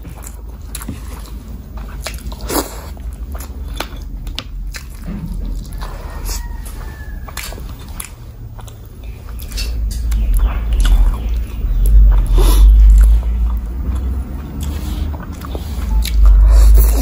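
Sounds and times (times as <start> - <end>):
heavy low rumble: 0.0 - 17.0
wet chewing and lip-smacking: 0.0 - 17.0.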